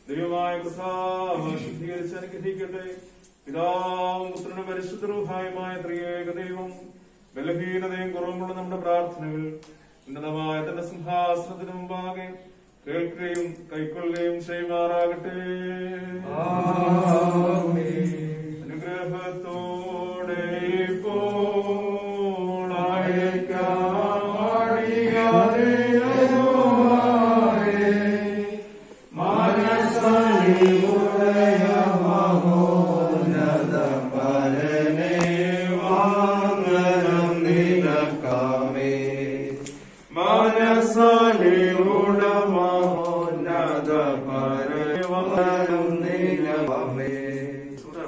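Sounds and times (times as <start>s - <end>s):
voices chanting a hymn: 0.0s - 48.0s.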